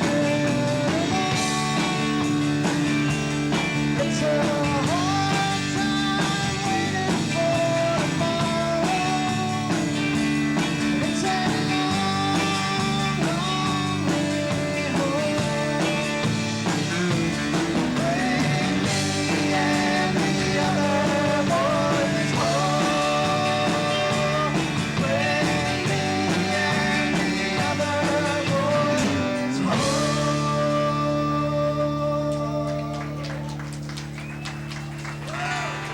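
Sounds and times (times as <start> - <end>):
live band playing: 0.0 - 35.9.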